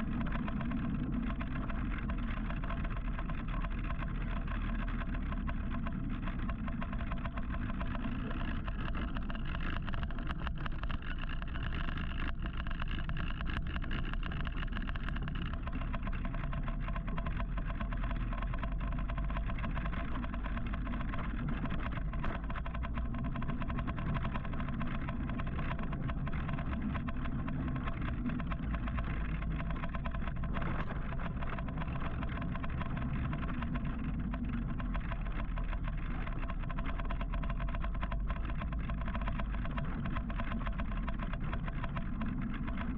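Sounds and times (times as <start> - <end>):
faint whining tones: 0.0 - 42.9
road and wind noise: 0.0 - 42.9
small clicks: 0.0 - 42.9.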